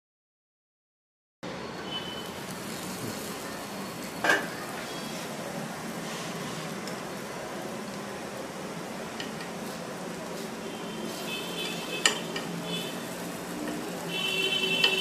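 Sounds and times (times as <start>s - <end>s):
food sizzling in a pan: 1.8s - 15.0s.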